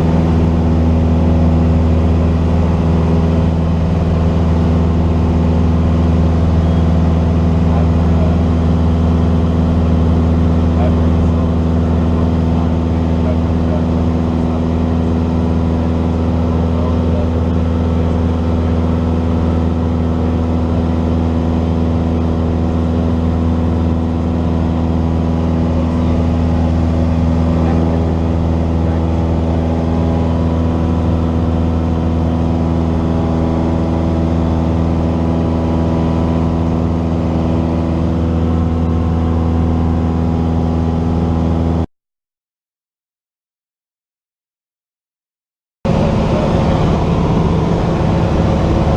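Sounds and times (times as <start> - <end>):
propeller plane engine droning: 0.0 - 41.9, 45.9 - 48.9.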